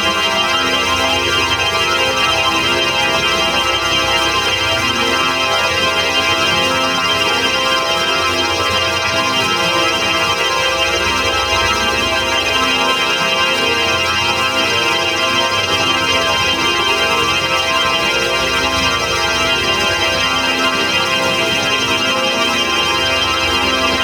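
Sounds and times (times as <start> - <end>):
organ sustained chord: 0.0 - 24.0.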